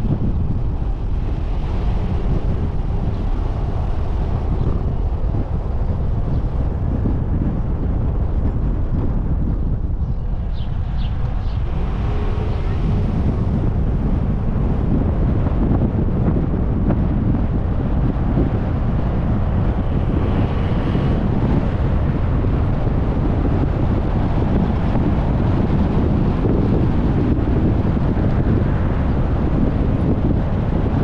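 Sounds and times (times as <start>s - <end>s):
wind and road noise in a car: 0.0s - 31.0s
wind blowing across microphone: 0.0s - 31.0s.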